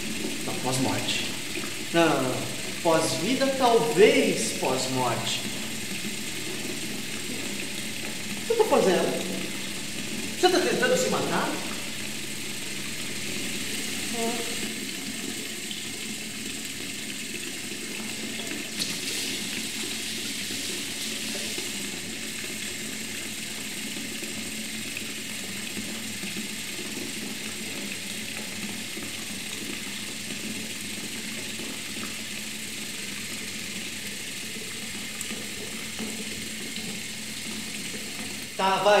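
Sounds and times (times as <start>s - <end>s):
tap water running into basin: 0.0s - 39.0s.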